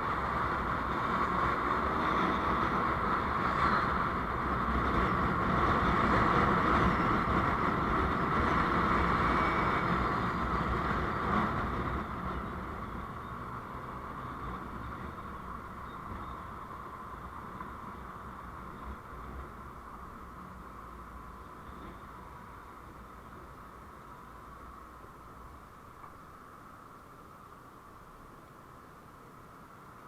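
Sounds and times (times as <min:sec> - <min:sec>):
road and engine noise: 0:00.0 - 0:30.0.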